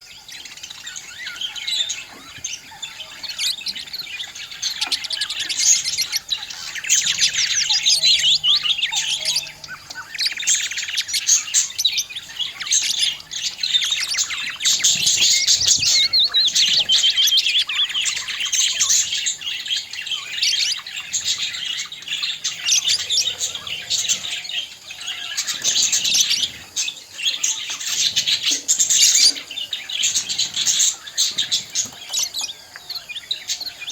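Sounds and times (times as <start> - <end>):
budgerigars chirping and warbling: 0.0 - 33.9.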